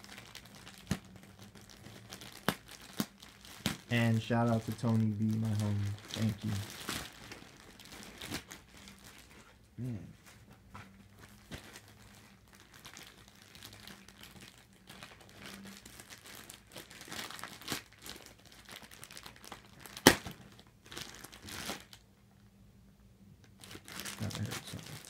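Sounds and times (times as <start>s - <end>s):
packaging tearing: 0.0s - 9.3s, 11.3s - 22.0s, 23.6s - 25.0s
packaging crinkling and rustling: 0.0s - 9.6s, 10.8s - 22.0s, 23.4s - 25.0s.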